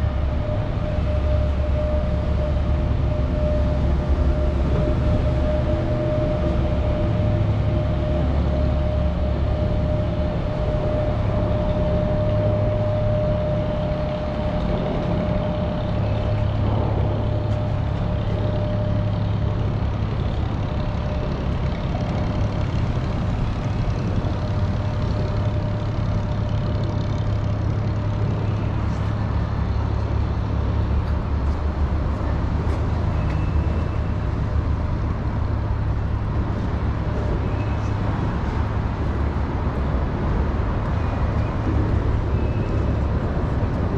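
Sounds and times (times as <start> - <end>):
road traffic rumble: 0.0 - 43.9.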